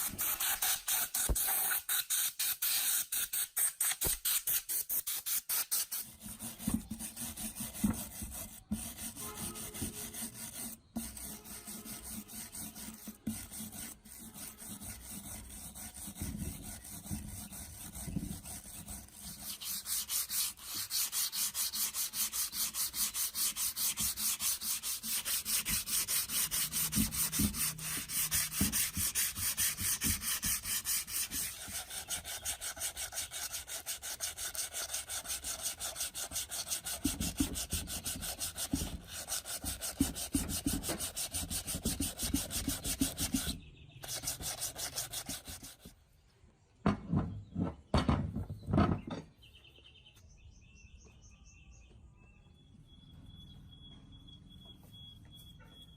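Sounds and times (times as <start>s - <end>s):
hand sanding rusty metal: 0.0s - 45.9s.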